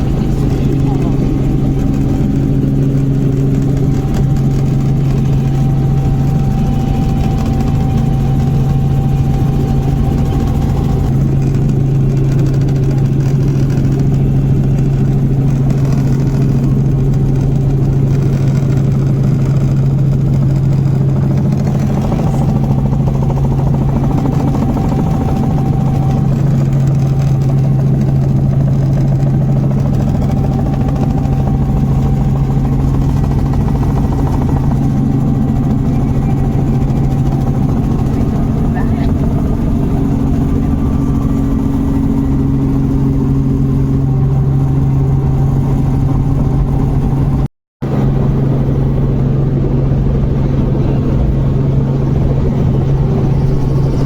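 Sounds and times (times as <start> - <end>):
helicopter cabin drone: 0.0 - 54.0.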